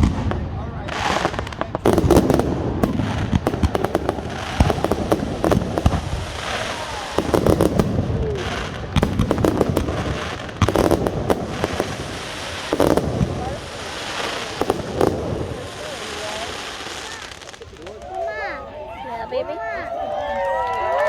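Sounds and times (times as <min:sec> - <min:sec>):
fireworks bangs and crackles: 0:00.0 - 0:18.6.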